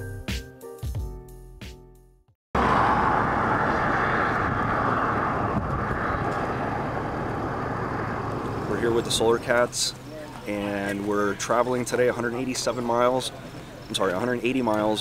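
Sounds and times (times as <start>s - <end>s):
highway road noise: 2.6s - 15.0s.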